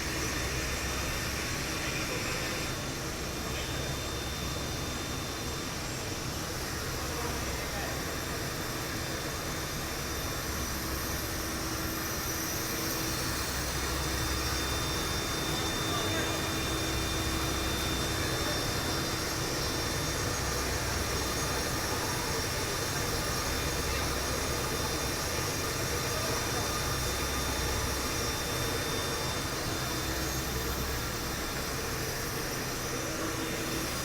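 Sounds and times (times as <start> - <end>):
machinery humming tones: 0.0 - 34.0.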